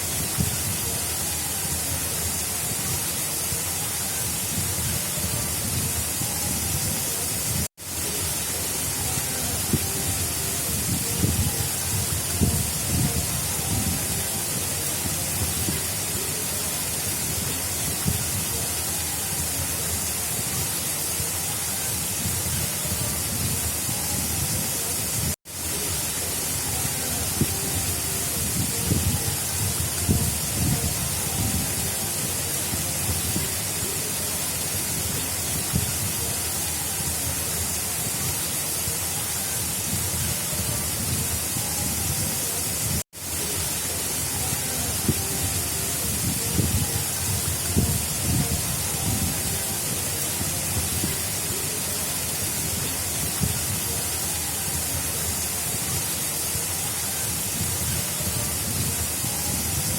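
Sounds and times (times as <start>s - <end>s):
water rushing in channel: 0.0s - 59.9s.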